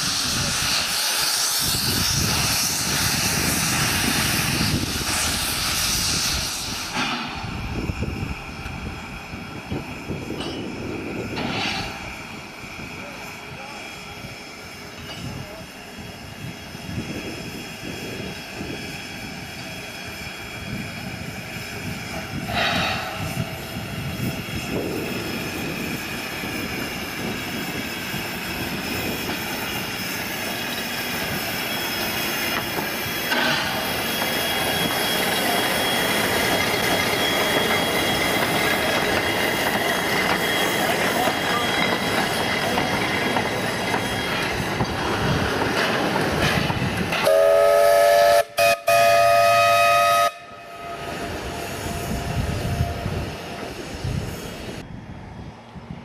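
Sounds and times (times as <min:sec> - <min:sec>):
wheels squealing on rails: 0:00.0 - 0:54.8
steam locomotive passing: 0:00.0 - 0:56.0.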